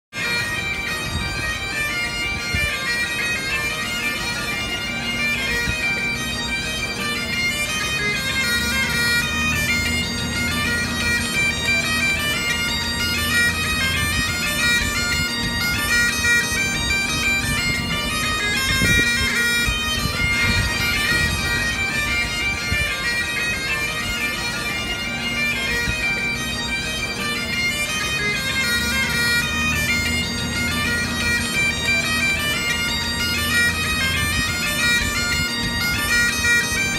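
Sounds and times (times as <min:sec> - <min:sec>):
bagpipe music: 0:00.1 - 0:36.9.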